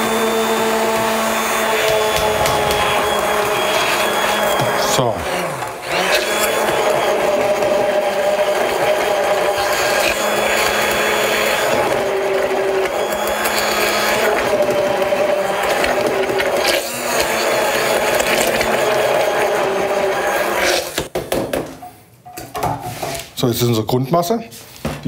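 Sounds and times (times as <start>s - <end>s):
stick blender running: 0.0s - 21.1s.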